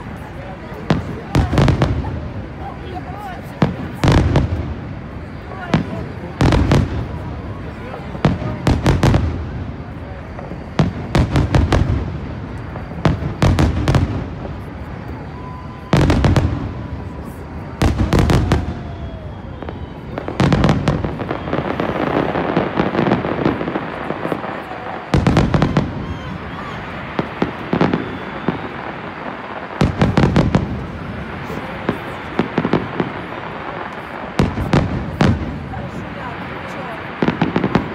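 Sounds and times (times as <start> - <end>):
firework crackling: 0.0 - 37.9.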